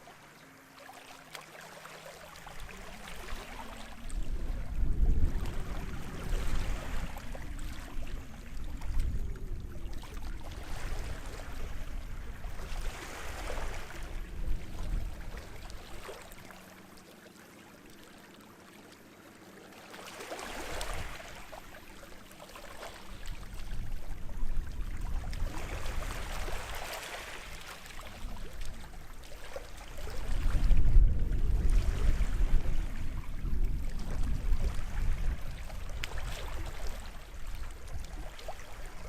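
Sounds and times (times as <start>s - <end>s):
sea waves washing ashore: 0.0s - 39.0s.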